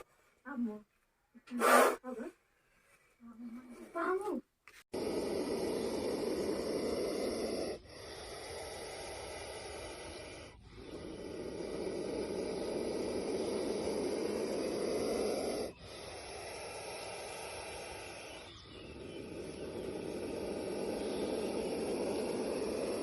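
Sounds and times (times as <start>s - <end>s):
snake hissing: 0.0s - 0.3s, 1.5s - 2.2s, 4.8s - 23.0s.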